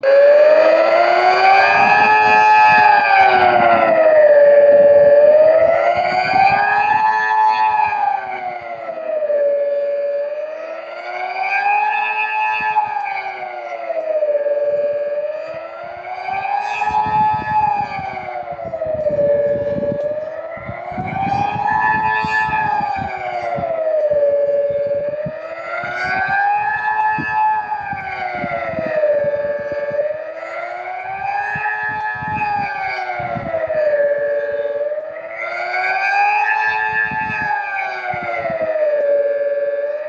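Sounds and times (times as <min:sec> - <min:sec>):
civil defence siren wailing: 0:00.0 - 0:40.0.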